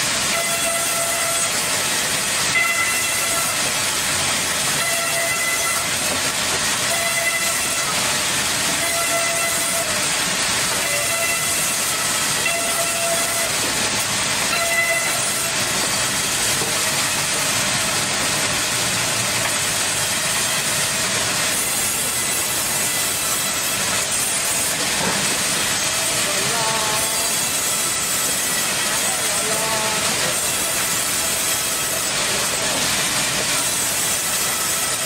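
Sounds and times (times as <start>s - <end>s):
band saw cutting log: 0.0s - 35.0s.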